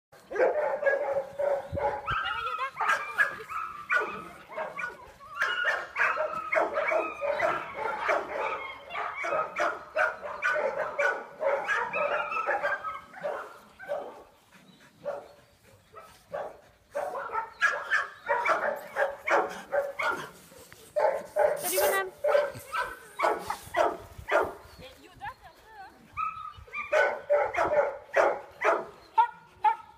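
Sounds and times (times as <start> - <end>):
small dogs barking and yapping: 0.2 - 29.9.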